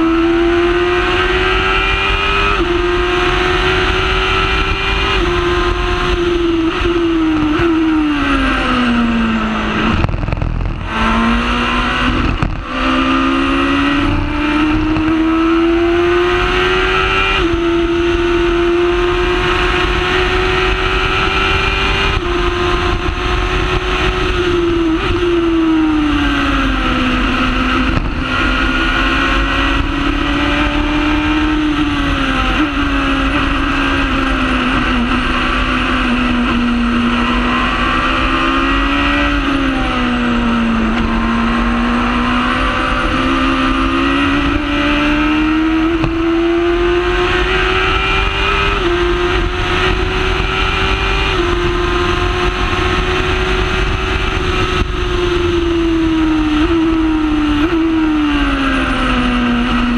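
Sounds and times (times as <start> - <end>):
racing car engine running hard: 0.0 - 59.9.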